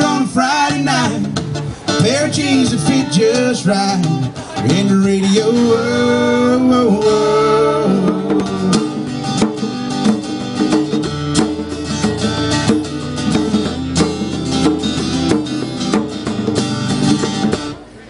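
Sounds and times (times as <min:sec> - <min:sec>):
acoustic guitar picking and strumming: 0:00.0 - 0:18.0.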